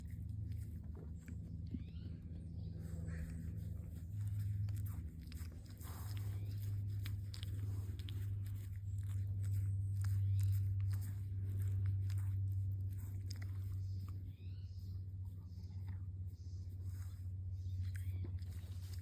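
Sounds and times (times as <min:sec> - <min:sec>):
deer chewing: 0:00.0 - 0:19.0
steady low hum: 0:00.0 - 0:19.0.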